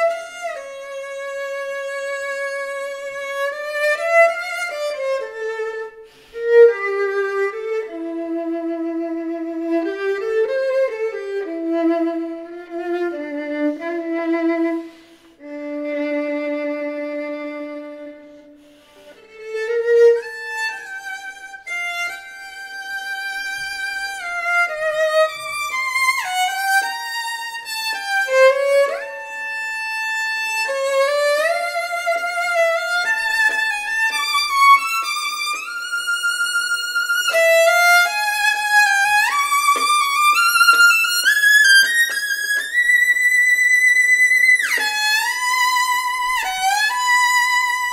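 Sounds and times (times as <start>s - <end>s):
solo violin: 0.0s - 47.9s.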